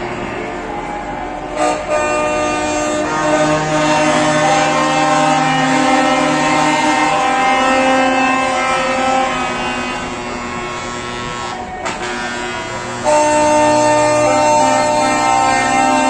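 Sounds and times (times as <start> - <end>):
truck air horns blaring: 0.0 - 16.0.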